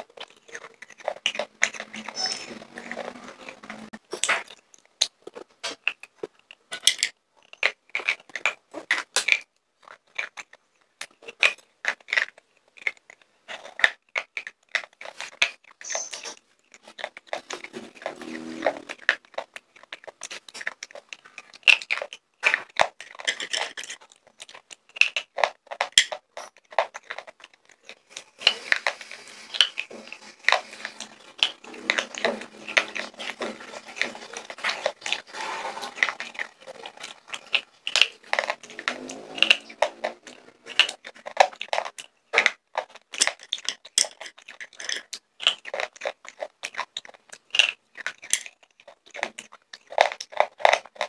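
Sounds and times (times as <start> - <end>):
chewing: 0.0 - 51.0
slate pencils crunching: 0.0 - 51.0.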